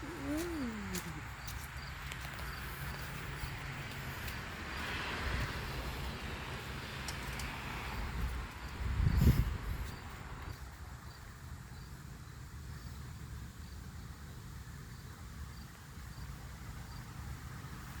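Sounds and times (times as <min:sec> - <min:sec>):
cricket chirping: 0:00.0 - 0:17.4.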